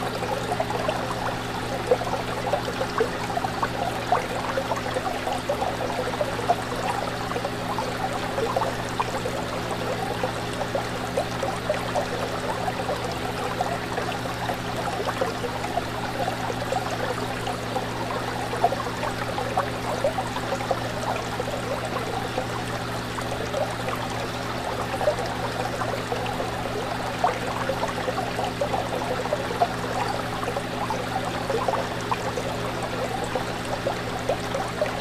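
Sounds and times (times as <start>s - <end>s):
small water splashes: 0.0s - 35.0s
water trickling and bubbling: 0.0s - 35.0s.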